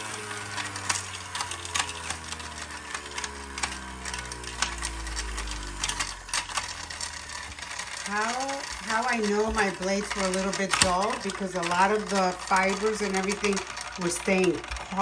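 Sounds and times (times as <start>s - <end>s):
ice crunching and rattling: 0.0s - 15.0s
juicer motor humming: 0.0s - 15.0s.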